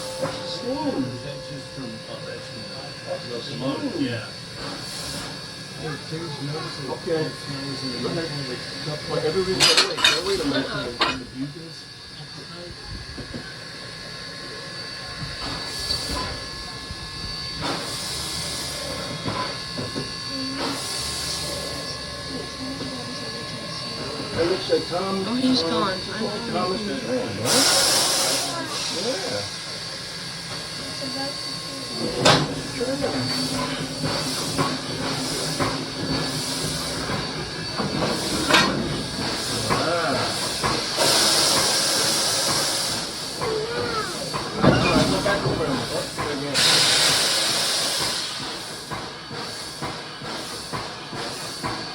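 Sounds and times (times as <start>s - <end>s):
steam bursts: 0.0s - 12.6s, 13.5s - 51.9s
steam locomotive hissing: 0.0s - 51.9s.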